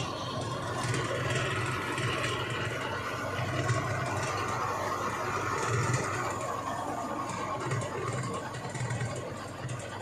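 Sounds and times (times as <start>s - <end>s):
tractor engine under load: 0.0s - 10.0s.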